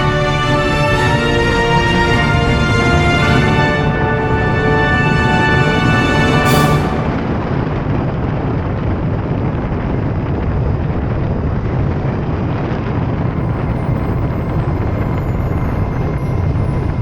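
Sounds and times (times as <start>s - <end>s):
wind buffeting: 0.0s - 17.0s.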